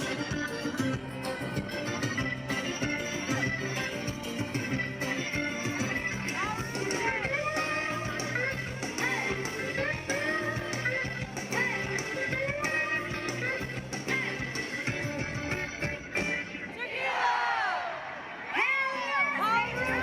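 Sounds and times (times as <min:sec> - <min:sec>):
bass guitar: 0:00.0 - 0:16.7
drums: 0:00.0 - 0:17.0.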